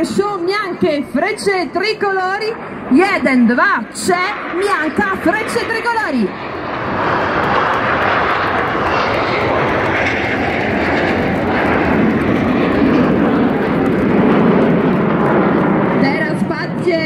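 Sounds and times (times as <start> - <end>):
jet aircraft roar flying past: 0.0 - 17.0.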